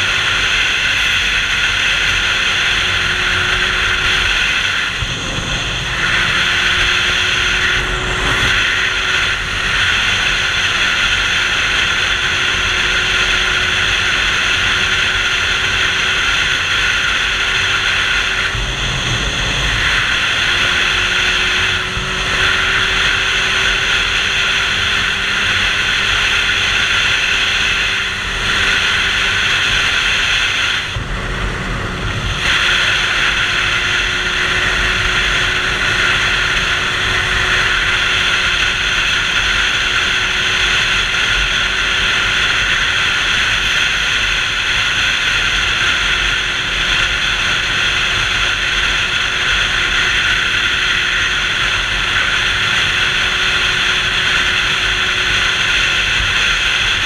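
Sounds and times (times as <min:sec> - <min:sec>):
motorcycle engine humming: 0:00.0 - 0:57.0
wind rushing over microphone: 0:00.0 - 0:57.0.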